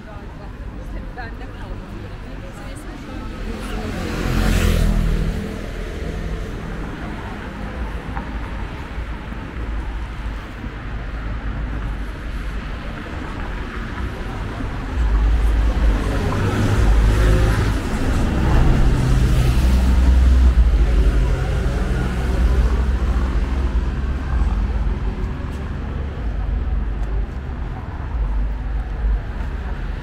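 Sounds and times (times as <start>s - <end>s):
background traffic: 0.0s - 30.0s
bus engine rumble: 0.0s - 30.0s.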